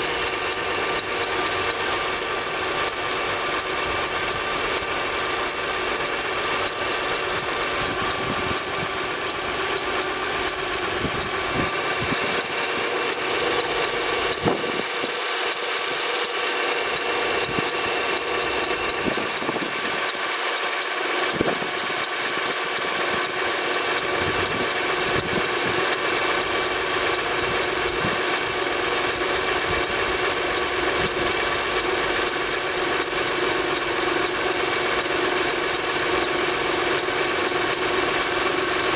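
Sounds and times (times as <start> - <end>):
engine knocking clatter: 0.0 - 38.9.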